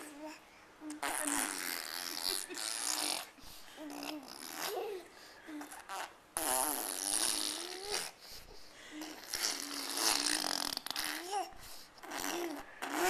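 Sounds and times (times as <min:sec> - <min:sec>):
baby blowing raspberries: 0:00.9 - 0:13.0.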